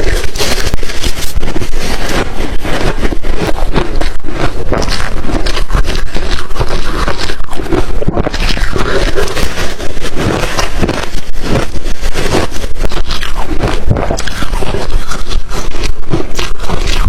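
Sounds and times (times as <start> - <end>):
ice being crunched and chewed: 0.0 - 17.0.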